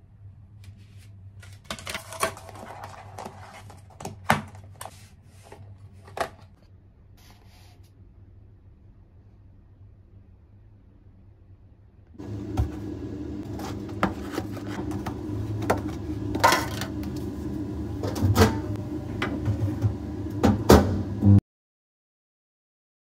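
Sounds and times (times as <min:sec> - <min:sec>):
room hum: 0:00.0 - 0:21.4.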